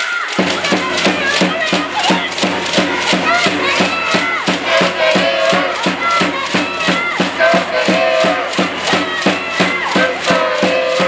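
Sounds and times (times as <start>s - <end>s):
crowd noise: 0.0s - 11.0s
rhythmic cheering music: 0.0s - 11.0s.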